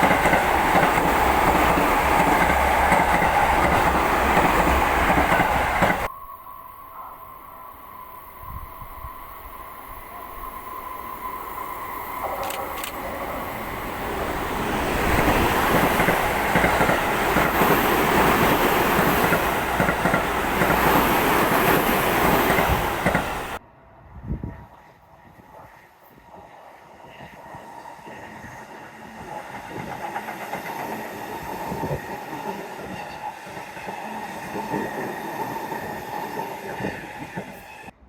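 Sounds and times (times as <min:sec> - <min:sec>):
electric train passing: 0:00.0 - 0:38.0.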